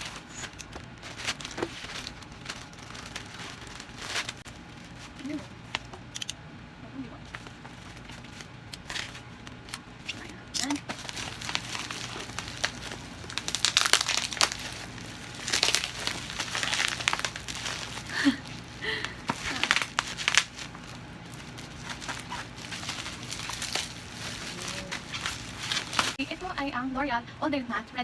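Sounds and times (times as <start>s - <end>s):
plastic packaging crinkling: 0.0s - 6.1s, 7.2s - 26.6s.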